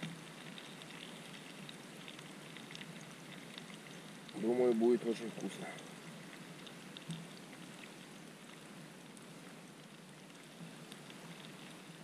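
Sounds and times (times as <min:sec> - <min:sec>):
faint ticks: 0:00.0 - 0:12.0.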